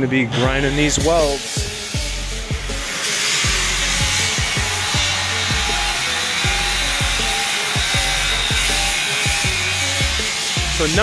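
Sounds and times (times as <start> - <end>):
angle grinder grinding steel: 0.0 - 11.0.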